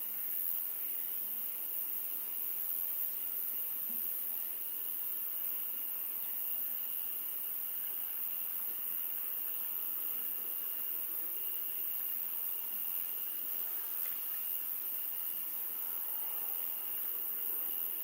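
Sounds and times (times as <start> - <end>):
crickets trilling: 0.0 - 18.0
light hiss: 0.0 - 18.0.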